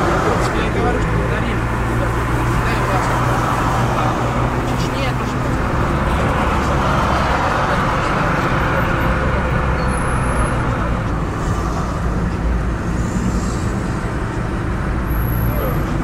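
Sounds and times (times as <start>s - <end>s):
road noise inside car: 0.0s - 16.0s.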